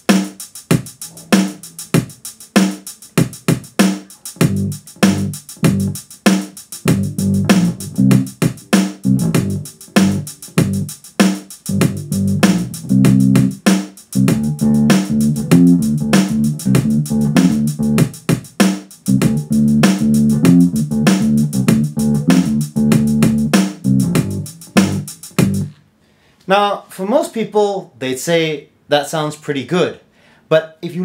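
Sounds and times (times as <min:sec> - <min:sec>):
rock music through distorting speaker: 0:00.0 - 0:25.7.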